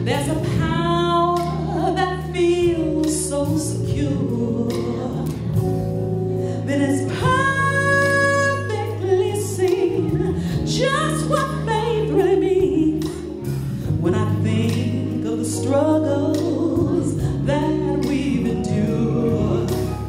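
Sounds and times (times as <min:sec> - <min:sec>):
music with steady bass: 0:00.0 - 0:20.0
woman singing slow song: 0:00.0 - 0:20.0.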